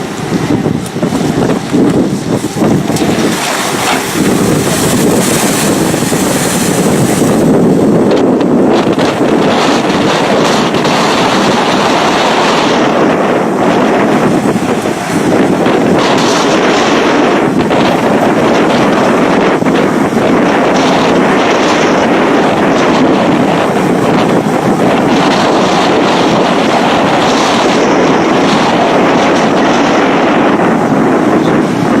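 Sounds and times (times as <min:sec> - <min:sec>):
amphibious bus moving through water: 0:00.0 - 0:32.0
wind on microphone: 0:00.0 - 0:32.0.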